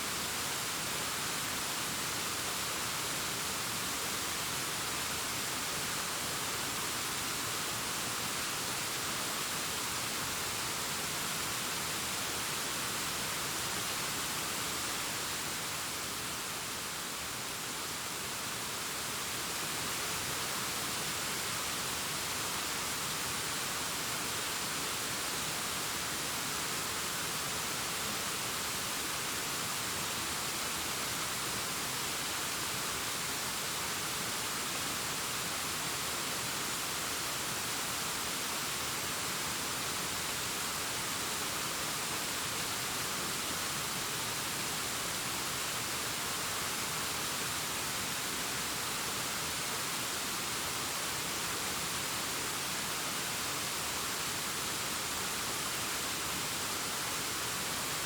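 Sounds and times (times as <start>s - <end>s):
distant waterfall rushing: 0.0s - 58.0s.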